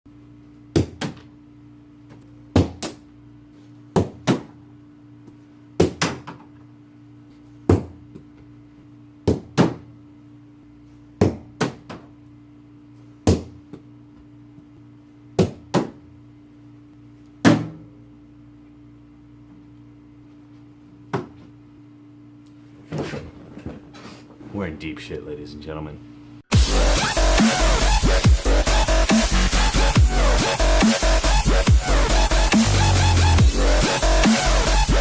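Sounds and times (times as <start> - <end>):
steady low hum: 0.1 - 35.0.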